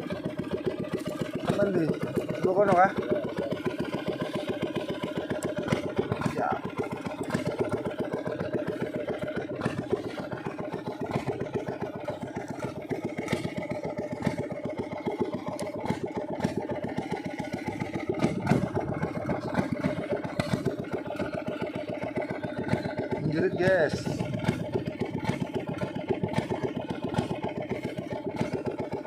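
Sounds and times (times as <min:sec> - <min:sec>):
small boat engine puttering: 0:00.0 - 0:29.0.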